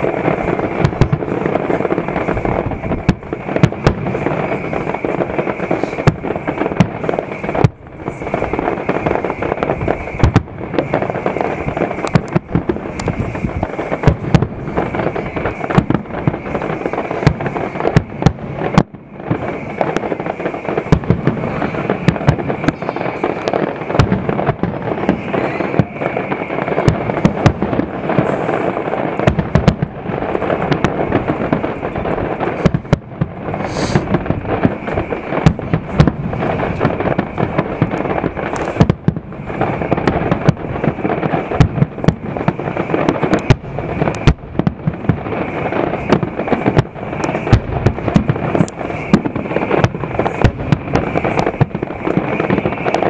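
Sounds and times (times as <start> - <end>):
fireworks bursting and crackling: 0.0 - 53.0.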